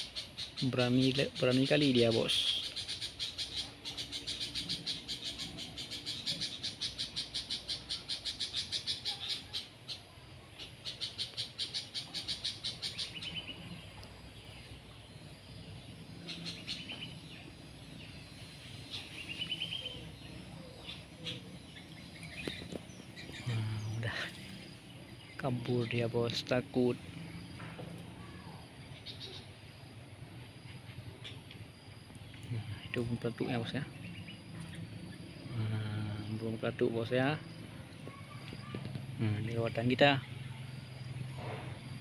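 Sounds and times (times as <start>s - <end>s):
bird chattering: 0.0s - 42.0s
bird chirps: 0.0s - 42.0s.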